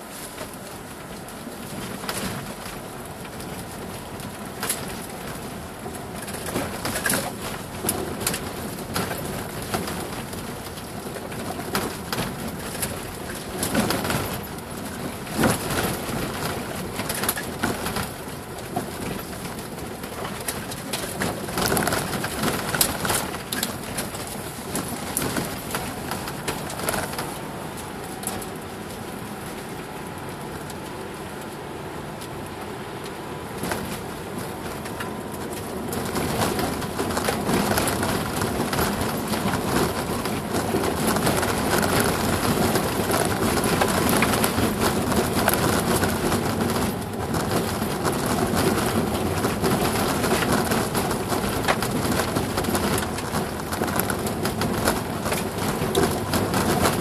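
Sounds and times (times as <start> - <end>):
car knocks and rattles over bumps: 0.0 - 31.3, 33.1 - 57.0
car driving on gravel: 0.0 - 57.0.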